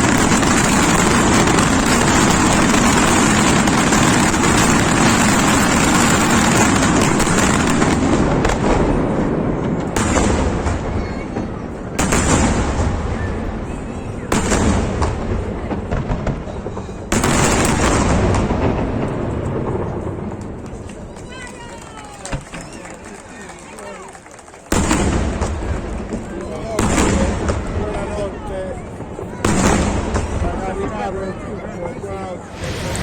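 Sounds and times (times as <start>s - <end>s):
big echoing firework bangs: 0.0s - 21.2s, 24.7s - 31.0s, 32.4s - 33.0s
fireworks exploding: 0.0s - 23.0s, 24.6s - 31.4s, 32.4s - 33.0s.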